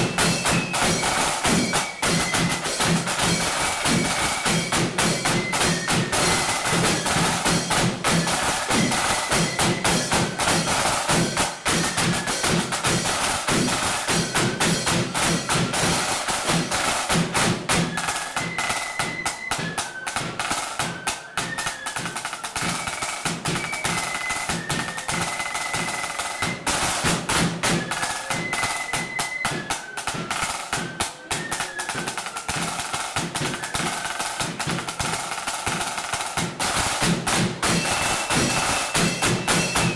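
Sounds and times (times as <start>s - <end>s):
flutes playing melody: 0.0s - 39.9s
rapid snare drumming: 0.0s - 39.9s.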